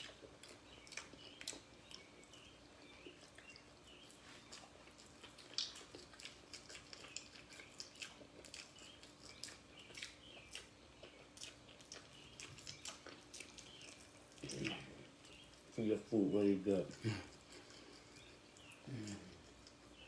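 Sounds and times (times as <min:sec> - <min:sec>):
close chewing with wet mouth clicks: 0:00.0 - 0:15.9, 0:16.7 - 0:20.0.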